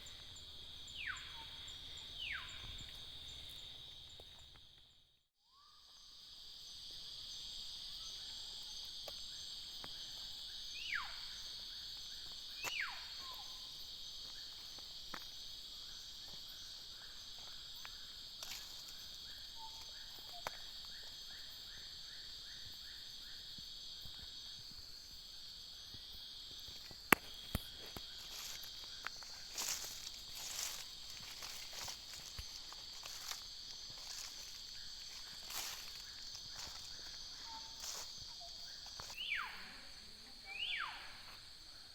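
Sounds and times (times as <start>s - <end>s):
insect chorus: 0.0s - 41.9s.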